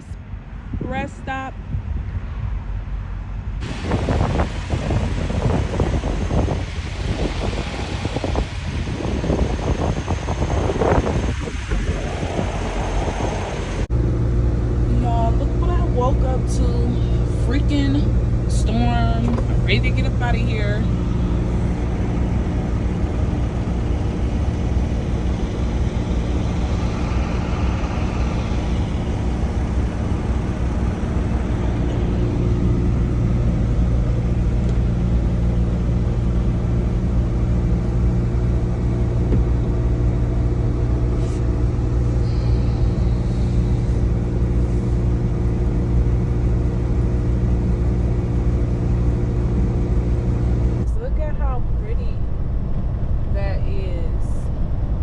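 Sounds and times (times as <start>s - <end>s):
diesel truck engine droning: 3.6s - 55.0s.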